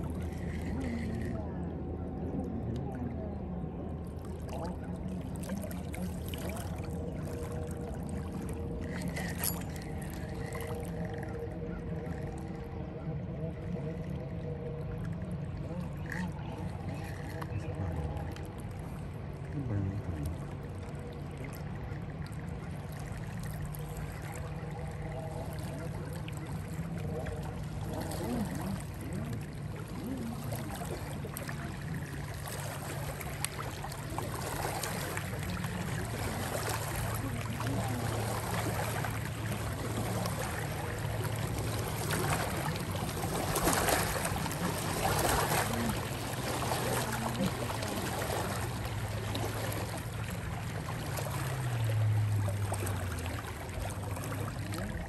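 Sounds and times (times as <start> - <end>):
low hum: 0.0 - 55.0
river water lapping against bank: 0.0 - 55.0.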